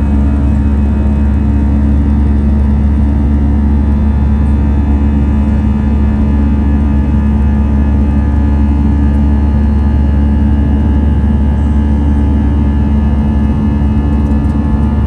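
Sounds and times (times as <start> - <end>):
deep rumble: 0.0 - 15.0
jet engines droning: 0.0 - 15.0
steady hum tones: 0.0 - 15.0.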